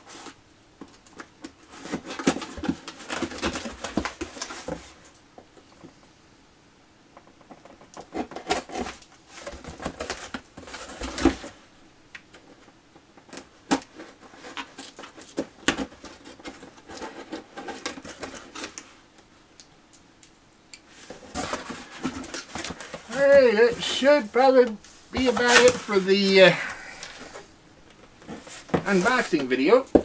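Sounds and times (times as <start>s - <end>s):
rustling of box and paper: 0.0s - 5.2s, 7.4s - 11.7s, 12.3s - 19.0s, 20.9s - 27.5s, 28.1s - 30.0s.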